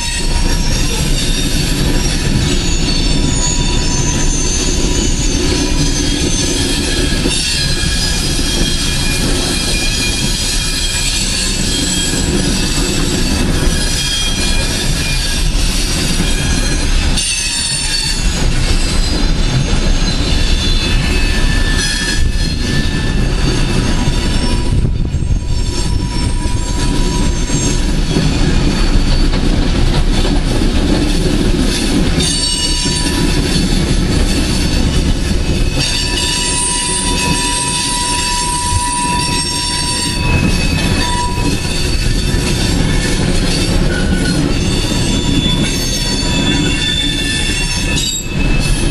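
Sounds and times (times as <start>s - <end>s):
steel wheels squealing: 0.0s - 48.9s
train cars rumbling past: 0.0s - 48.9s.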